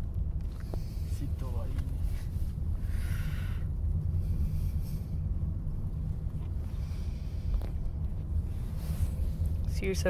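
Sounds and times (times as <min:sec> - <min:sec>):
low rumble inside car cabin: 0:00.0 - 0:10.0.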